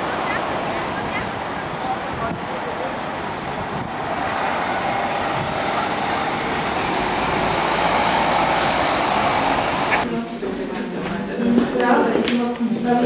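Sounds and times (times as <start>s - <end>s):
passing traffic rush: 0.0s - 11.0s.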